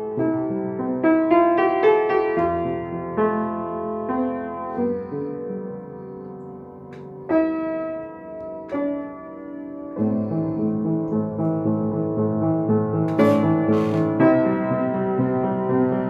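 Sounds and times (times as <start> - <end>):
out of tune upright piano: 0.0 - 16.0.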